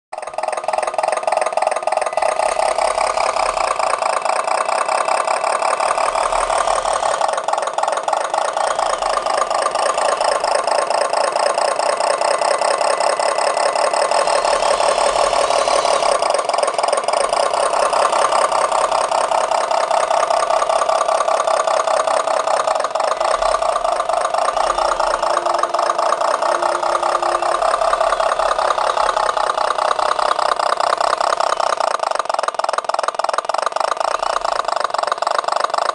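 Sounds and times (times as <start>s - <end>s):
small motor buzzy rattle: 0.2s - 35.9s.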